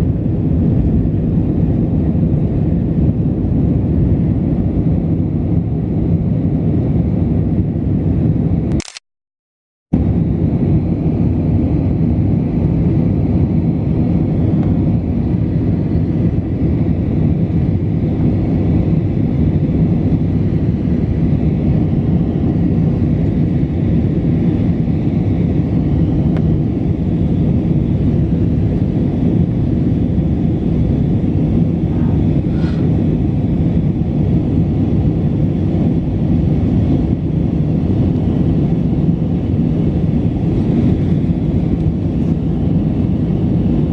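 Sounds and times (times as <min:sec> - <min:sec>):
airliner cabin engine rumble: 0:00.0 - 0:09.0, 0:10.0 - 0:43.9.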